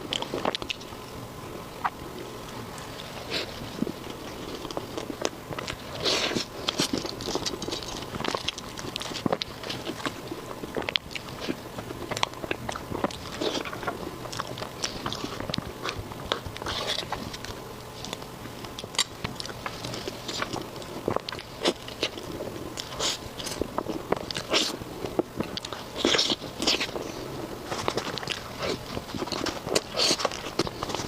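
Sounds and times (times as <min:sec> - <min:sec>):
biting and chewing: 0:00.0 - 0:31.0.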